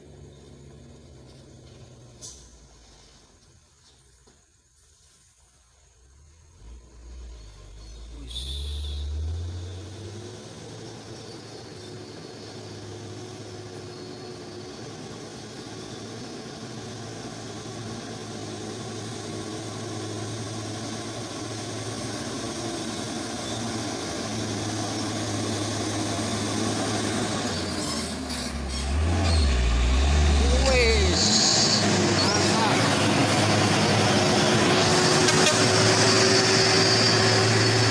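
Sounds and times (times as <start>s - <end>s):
diesel truck engine droning: 0.0s - 4.0s, 5.8s - 37.9s.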